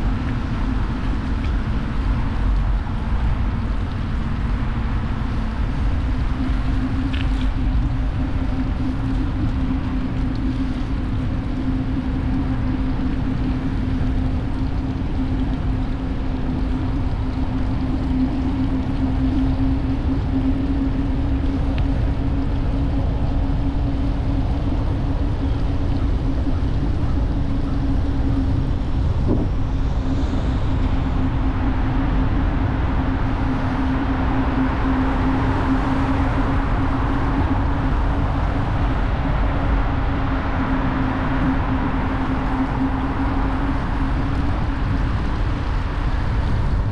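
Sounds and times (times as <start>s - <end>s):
constant low hum: 0.0s - 46.9s
wind buffeting microphone: 0.0s - 46.9s.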